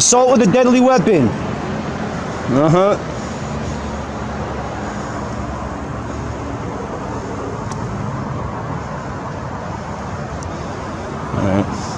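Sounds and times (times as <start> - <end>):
road and traffic noise: 0.0 - 11.9.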